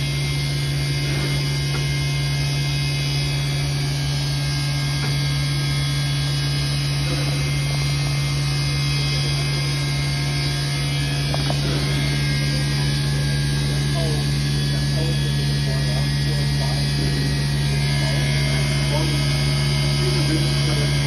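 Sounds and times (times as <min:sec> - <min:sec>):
deep hum: 0:00.0 - 0:21.0.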